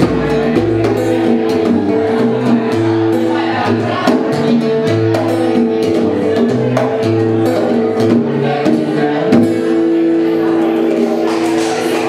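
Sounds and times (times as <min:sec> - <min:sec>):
bongos: 0:00.0 - 0:10.0
strummed guitar chords: 0:00.0 - 0:12.0.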